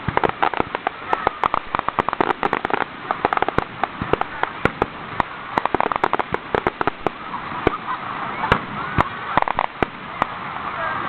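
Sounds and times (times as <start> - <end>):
crowd voices: 0.0 - 11.0
fireworks bangs and crackles: 0.0 - 11.0.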